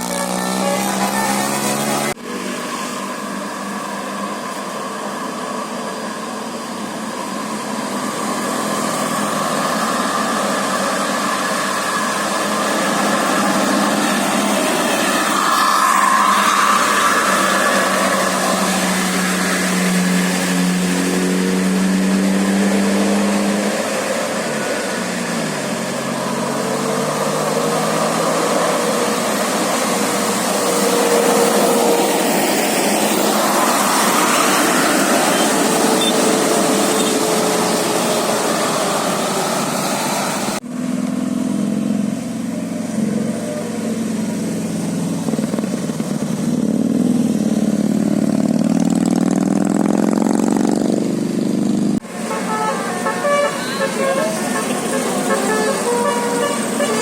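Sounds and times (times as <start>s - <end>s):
bus engine running: 0.0s - 57.0s
road and wind noise: 0.0s - 57.0s.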